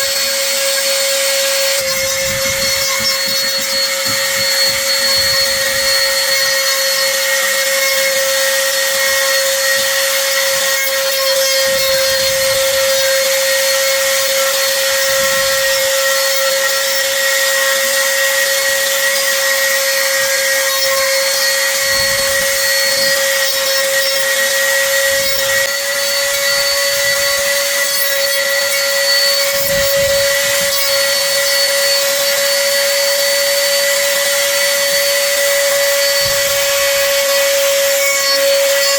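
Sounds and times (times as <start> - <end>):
router bit cutting wood: 0.0 - 38.9
wood router whining: 0.0 - 38.9.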